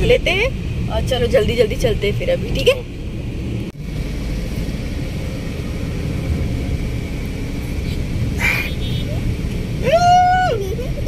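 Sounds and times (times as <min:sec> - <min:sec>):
car interior engine and road noise: 0:00.0 - 0:11.0.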